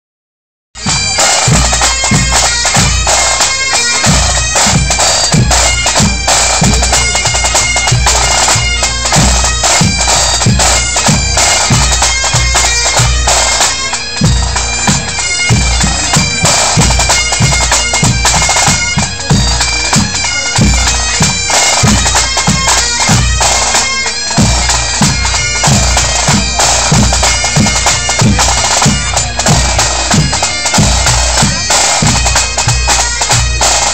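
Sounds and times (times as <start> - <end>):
bagpipes playing: 0.8 - 33.9
drums beating: 0.8 - 33.9.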